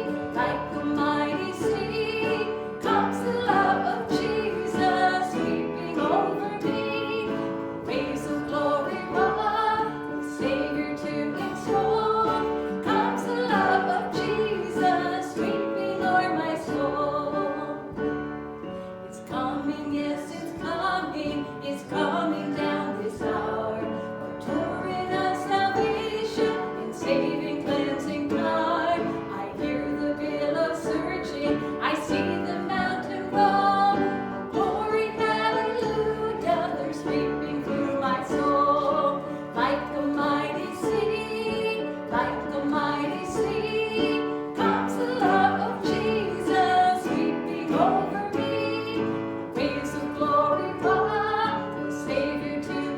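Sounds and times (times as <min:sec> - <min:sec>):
congregation singing worship song: 0:00.0 - 0:52.9.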